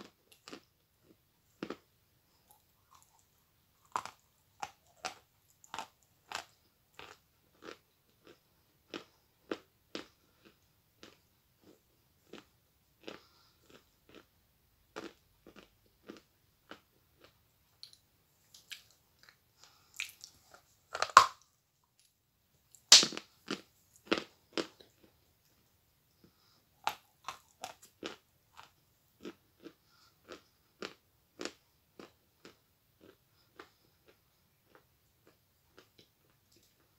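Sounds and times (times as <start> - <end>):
person chewing chalk: 0.0 - 14.3, 14.9 - 21.4, 22.7 - 36.9.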